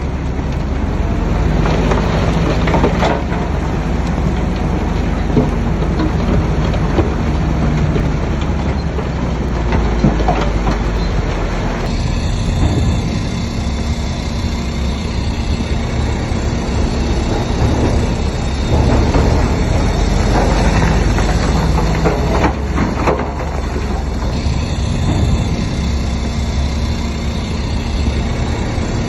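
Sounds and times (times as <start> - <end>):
diesel earthmoving machinery running: 0.0 - 29.0.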